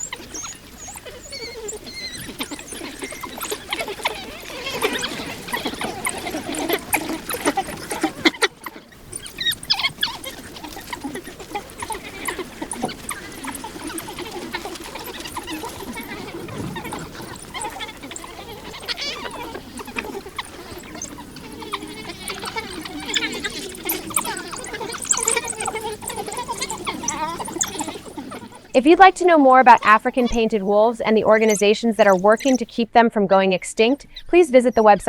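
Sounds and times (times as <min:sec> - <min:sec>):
wild dogs yipping and squeaking: 0:00.0 - 0:32.8.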